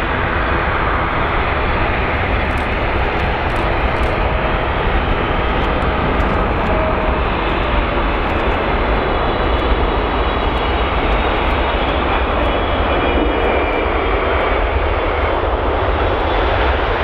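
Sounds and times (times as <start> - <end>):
jet engines on landing: 0.0 - 17.0.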